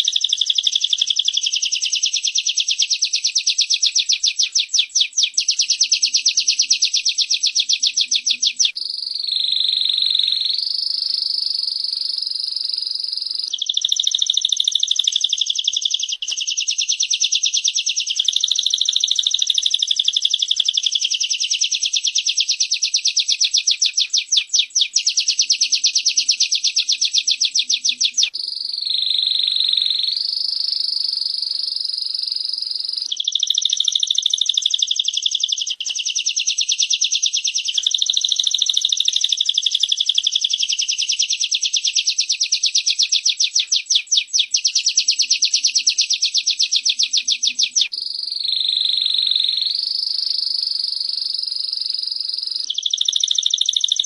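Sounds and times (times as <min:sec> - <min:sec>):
bird trilling: 0:00.0 - 0:54.0
birds chipping rapidly: 0:00.0 - 0:54.0.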